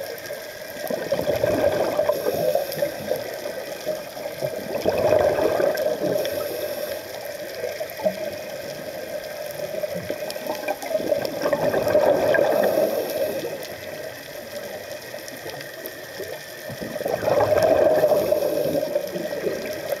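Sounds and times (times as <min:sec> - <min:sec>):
exhaled bubbles underwater: 0:00.0 - 0:20.0
watery background: 0:00.0 - 0:20.0.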